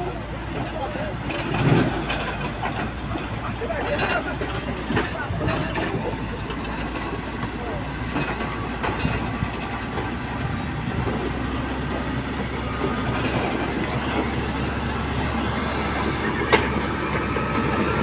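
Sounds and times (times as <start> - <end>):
heavy construction machinery running: 0.0 - 18.0.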